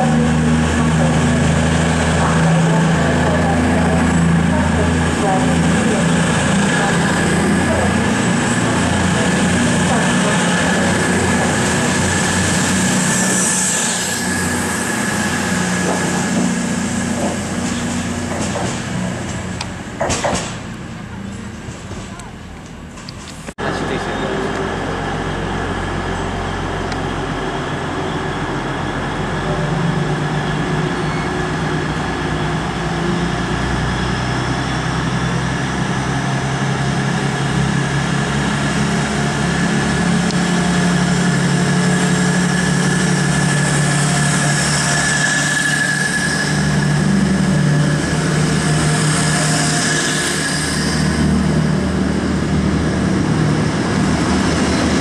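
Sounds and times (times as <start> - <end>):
diesel train engines running: 0.0 - 55.0
train carriages rolling past: 0.0 - 55.0.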